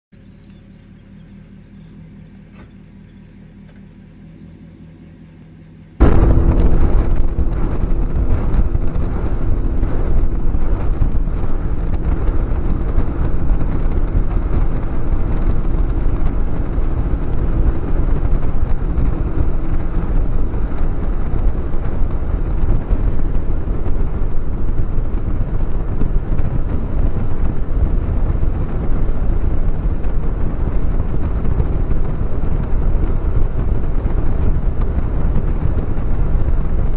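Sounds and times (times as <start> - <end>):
faint low hum: 0.2 - 36.9
outboard boat engine: 0.2 - 36.9
wind buffeting microphone: 6.0 - 36.9.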